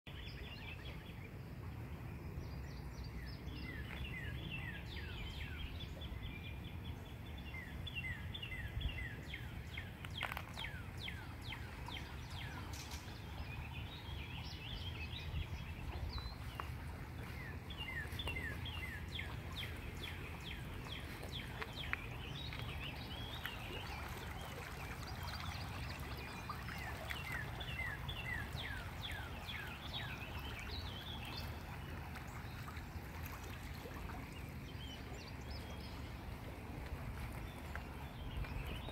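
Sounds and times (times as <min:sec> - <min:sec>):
songbirds chirping: 0:00.1 - 0:38.9
low outdoor rumble: 0:00.3 - 0:38.9.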